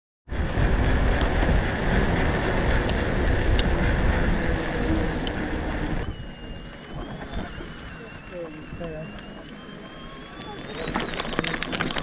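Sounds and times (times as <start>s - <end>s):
wind buffeting microphone: 0.3s - 12.0s.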